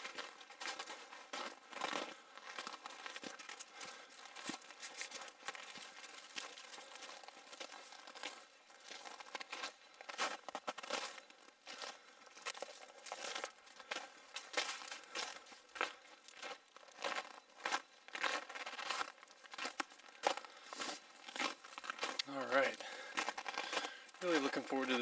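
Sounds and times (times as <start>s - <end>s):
footsteps crunching on snow: 0.0s - 25.0s.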